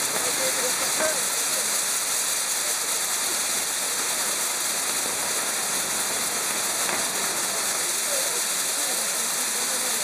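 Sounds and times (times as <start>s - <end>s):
ground fireworks hissing: 0.0s - 10.0s.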